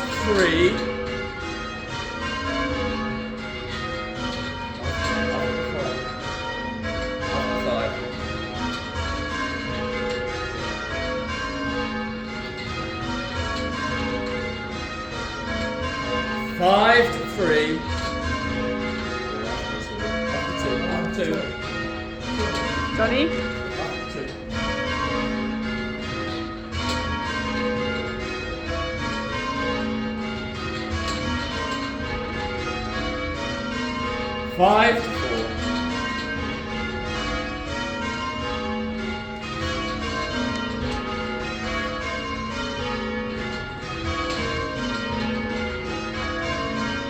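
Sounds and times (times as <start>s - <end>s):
church bells ringing: 0.0s - 47.0s.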